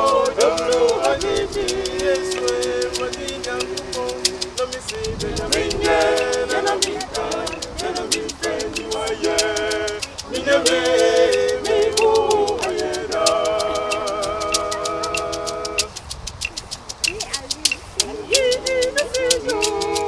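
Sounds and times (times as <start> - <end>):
quick percussion ticks: 0.0 - 20.0
singing voices: 0.0 - 20.0.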